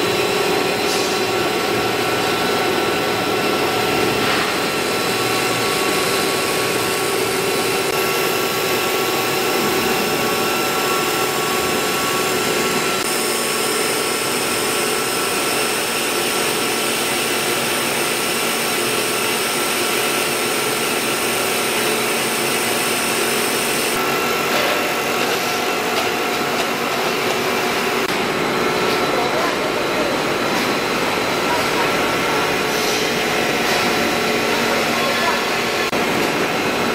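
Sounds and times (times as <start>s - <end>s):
machine hum and hiss: 0.0s - 36.9s
steady machine whines: 0.0s - 36.9s.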